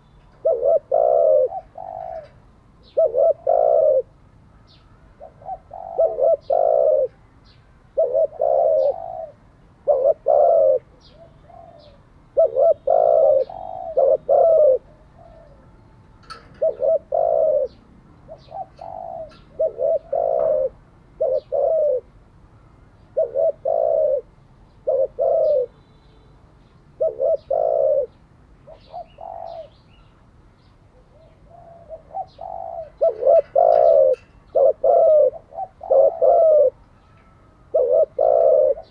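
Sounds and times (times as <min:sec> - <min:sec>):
dove cooing: 0:00.0 - 0:07.2, 0:07.9 - 0:22.1, 0:23.1 - 0:25.8, 0:27.0 - 0:29.8, 0:30.9 - 0:38.9.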